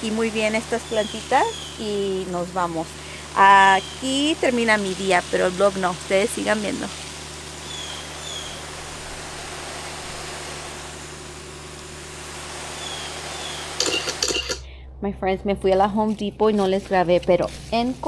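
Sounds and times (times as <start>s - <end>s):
hose nozzle spraying water: 0.0s - 14.6s.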